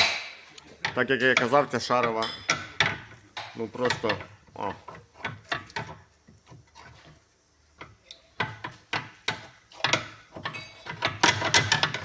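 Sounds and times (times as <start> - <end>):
ball joint knocking and clicking: 0.0 - 7.2, 7.8 - 12.0.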